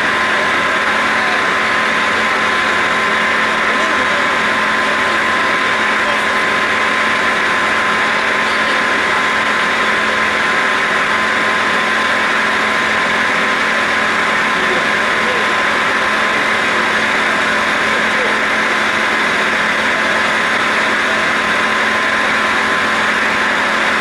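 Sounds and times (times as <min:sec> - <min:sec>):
lathe cutting metal: 0:00.0 - 0:24.0.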